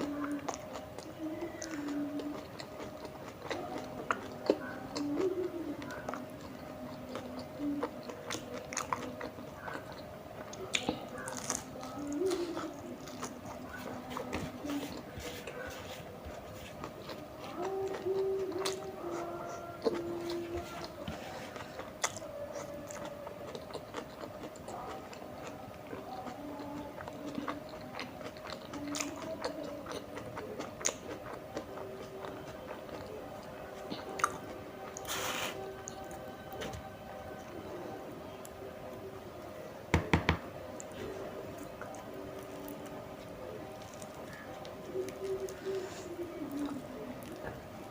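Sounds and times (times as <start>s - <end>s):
close-miked chewing: 0.0s - 39.9s, 40.5s - 47.9s.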